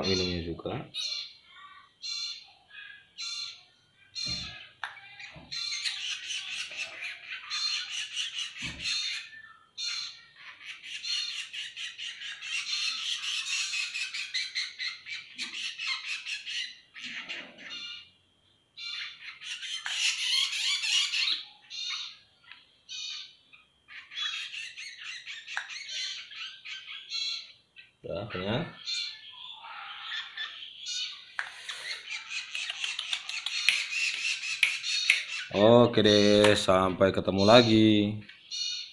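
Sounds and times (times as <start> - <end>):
fledgling birds squawking: 0.0 - 38.9.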